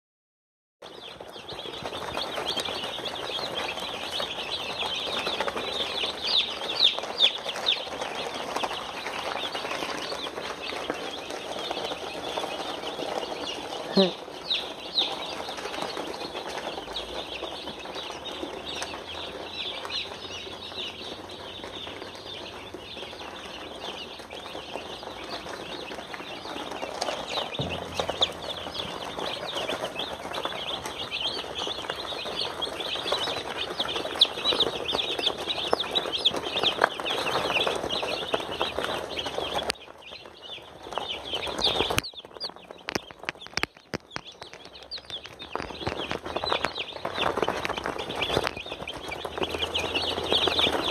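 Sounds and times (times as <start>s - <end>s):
chicks peeping: 0.8s - 50.9s.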